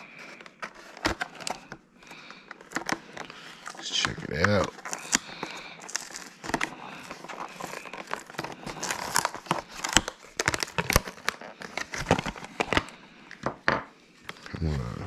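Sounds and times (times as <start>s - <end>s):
plastic blister pack crinkling: 0.0s - 13.2s.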